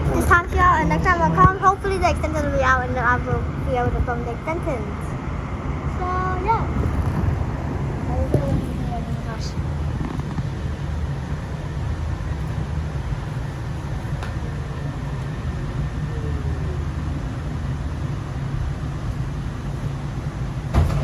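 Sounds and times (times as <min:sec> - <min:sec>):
light rail train rumbling: 0:00.0 - 0:21.0.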